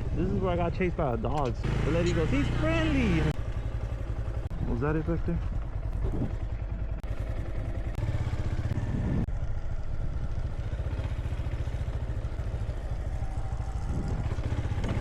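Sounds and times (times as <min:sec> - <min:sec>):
minibike engine running: 0:00.0 - 0:15.0.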